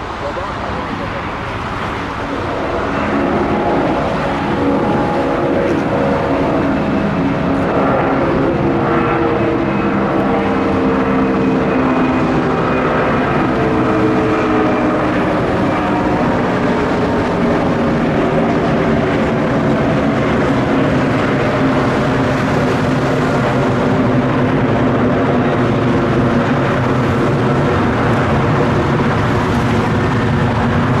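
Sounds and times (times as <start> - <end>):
droning tones: 0.0 - 31.0
jet engines rumbling: 0.0 - 31.0.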